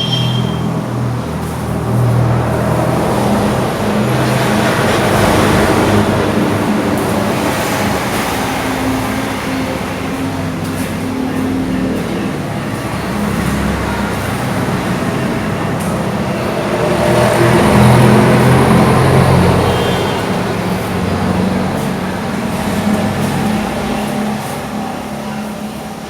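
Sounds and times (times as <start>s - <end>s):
vehicle engine passing: 0.0s - 26.0s.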